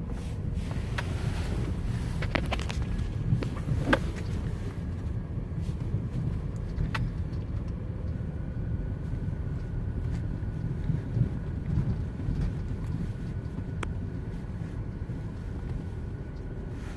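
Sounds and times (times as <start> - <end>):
car driving rumble: 0.0 - 16.9.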